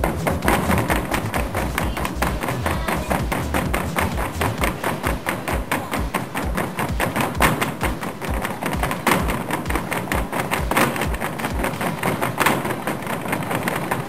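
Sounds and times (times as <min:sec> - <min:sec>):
body percussion on plastic stools: 0:00.0 - 0:14.0
taps on wooden floor: 0:02.3 - 0:14.0.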